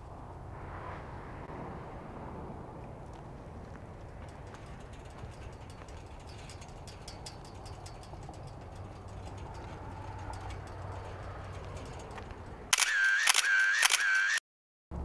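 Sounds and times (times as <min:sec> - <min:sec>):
low outdoor background noise: 0:00.0 - 0:13.9.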